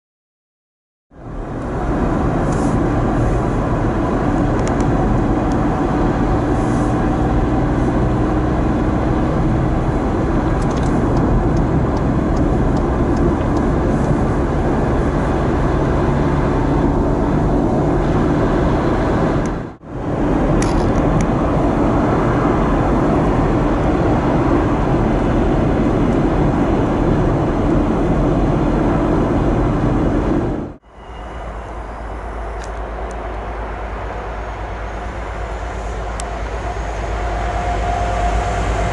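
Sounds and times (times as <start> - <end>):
car engine hum: 1.2 - 30.8, 31.4 - 38.9.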